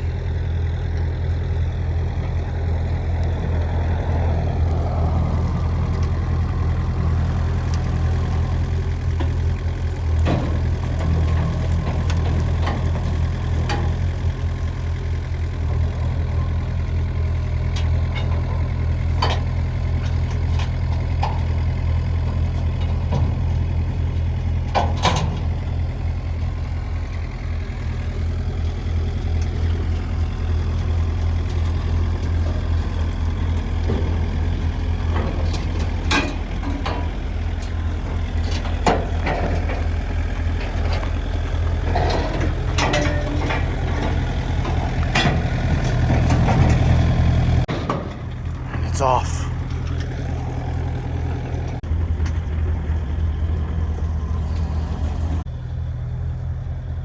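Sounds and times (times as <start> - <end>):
heavy engine idling: 0.0 - 57.0
sharp clanks and knocks: 7.3 - 55.4.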